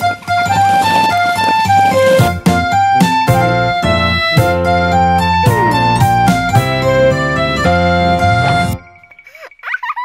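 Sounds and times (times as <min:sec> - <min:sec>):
instrumental background music: 0:00.0 - 0:09.1.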